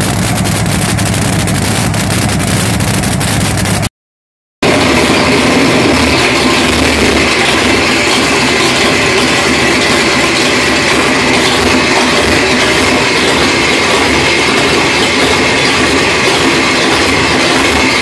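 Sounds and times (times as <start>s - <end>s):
loud engine running: 0.0s - 3.9s, 4.6s - 18.0s.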